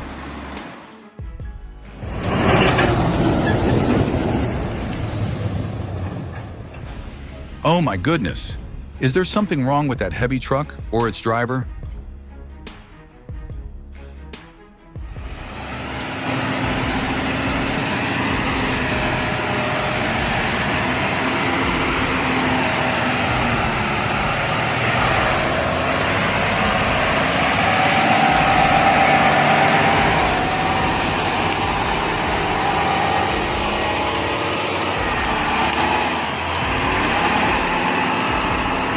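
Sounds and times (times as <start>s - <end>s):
engine whine: 0.0s - 1.1s, 1.7s - 9.4s, 15.0s - 38.9s
truck engine running: 0.0s - 10.3s, 15.0s - 38.9s.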